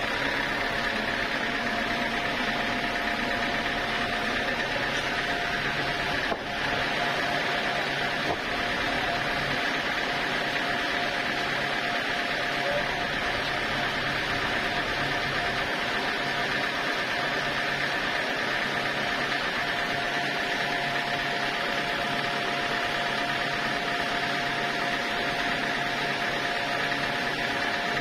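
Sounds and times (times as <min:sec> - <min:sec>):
sawmill machine hum and whine: 0:00.0 - 0:28.0.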